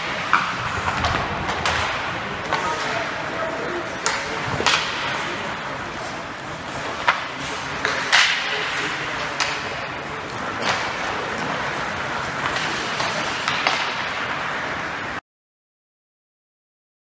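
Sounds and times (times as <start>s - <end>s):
sticks and puck cracking: 0.0s - 14.8s
arena ambience: 0.0s - 15.2s
skates scraping on ice: 0.0s - 15.2s.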